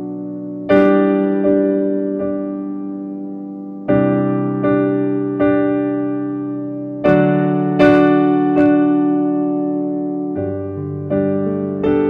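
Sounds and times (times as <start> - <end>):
keyboard chords: 0.0 - 12.0.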